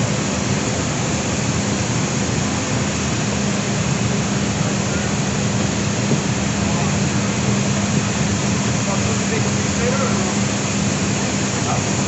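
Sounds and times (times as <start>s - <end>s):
aircraft cargo hold drone: 0.0s - 12.0s.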